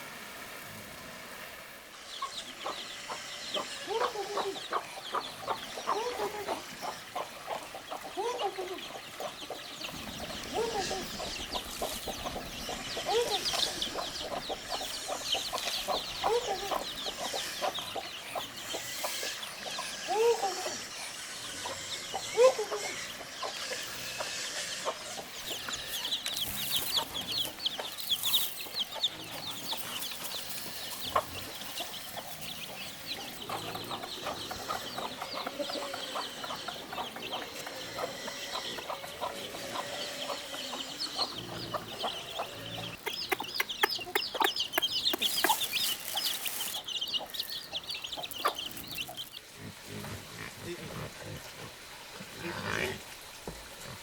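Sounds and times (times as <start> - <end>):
chicks peeping: 2.2 - 49.7
hen clucking: 2.2 - 51.7.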